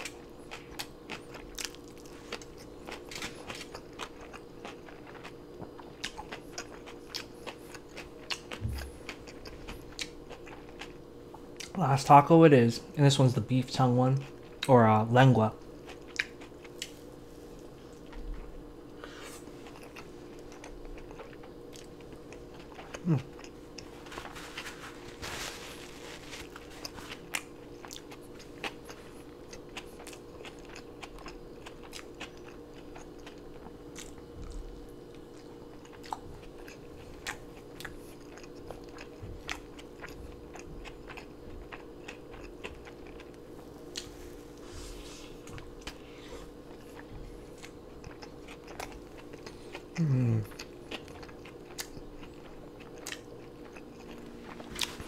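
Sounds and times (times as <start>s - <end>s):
person chewing wetly: 0.0s - 11.8s, 15.7s - 55.0s
steady low hum: 0.0s - 55.0s.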